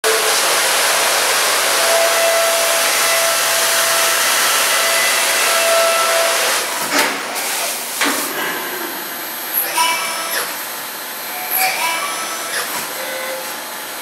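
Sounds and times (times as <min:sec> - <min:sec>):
milling machine cutting metal: 0:00.0 - 0:14.0.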